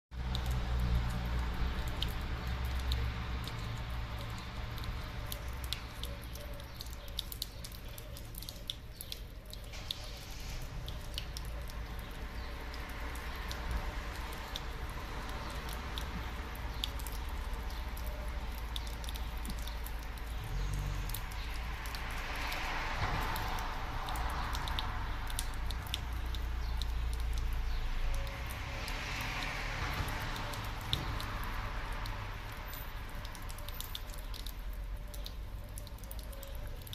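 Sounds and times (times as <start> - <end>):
cat lapping water: 0.2 - 36.9.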